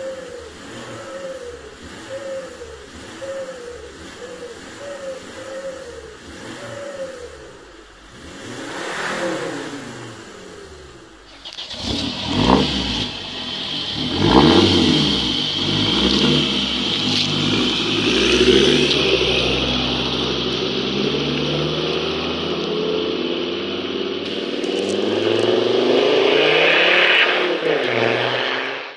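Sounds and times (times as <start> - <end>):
diesel car engine revving: 0.0 - 28.9.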